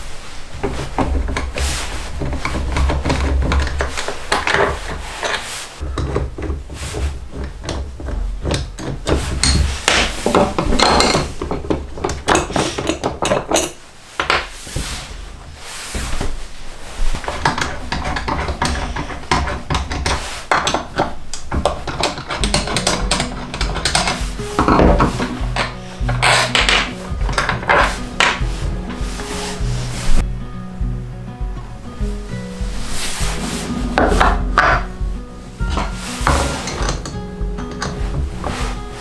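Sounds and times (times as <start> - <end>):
wooden pieces clacking and sliding: 0.5 - 30.2, 32.8 - 39.0.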